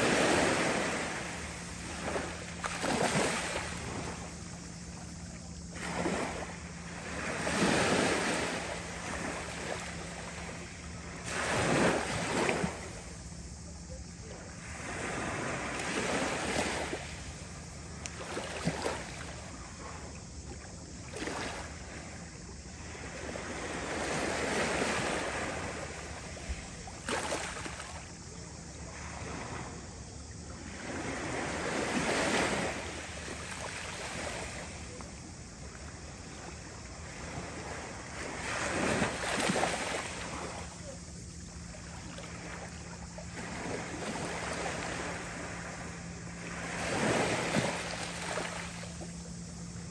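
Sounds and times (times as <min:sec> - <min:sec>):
small waves lapping on pebble shore: 0:00.0 - 0:13.4, 0:14.6 - 0:17.4, 0:18.0 - 0:19.7, 0:22.8 - 0:28.1, 0:30.6 - 0:49.9.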